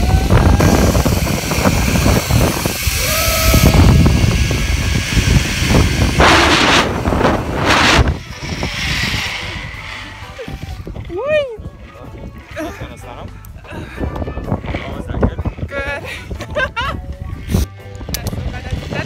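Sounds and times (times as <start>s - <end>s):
wind buffeting phone microphone: 0.0s - 19.0s.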